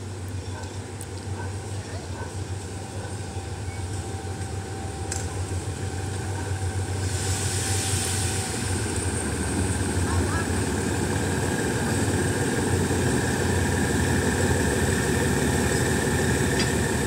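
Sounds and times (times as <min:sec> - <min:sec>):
diesel locomotive engine humming: 0:00.0 - 0:17.0
train hiss: 0:02.8 - 0:17.0.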